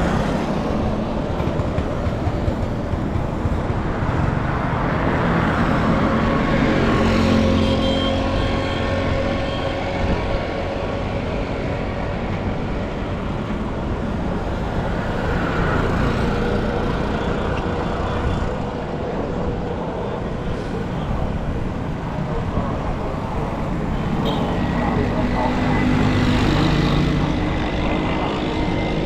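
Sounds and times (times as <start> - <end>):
road noise from passing cars: 0.0 - 29.0.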